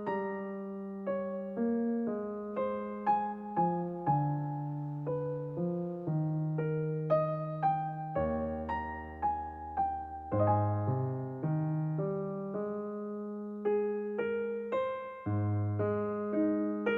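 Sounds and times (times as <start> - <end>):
calm piano melody: 0.0 - 16.9.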